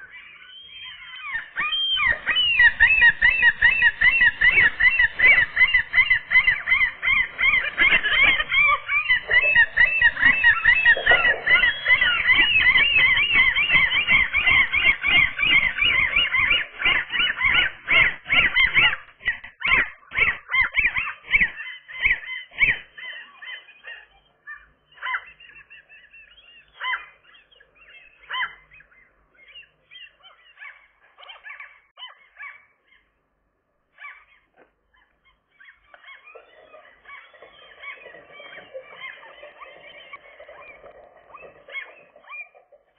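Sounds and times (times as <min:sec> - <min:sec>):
gulls calling: 0:00.0 - 0:33.2, 0:34.0 - 0:42.9.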